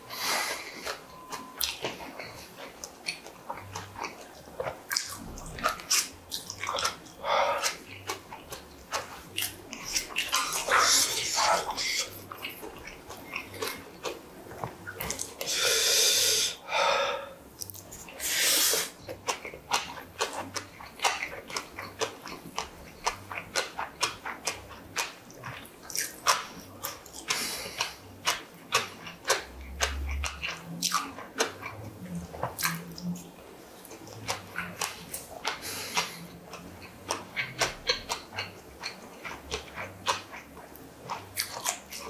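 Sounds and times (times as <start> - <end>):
chewing with mouth clicks: 0.0 - 15.8, 17.5 - 42.0.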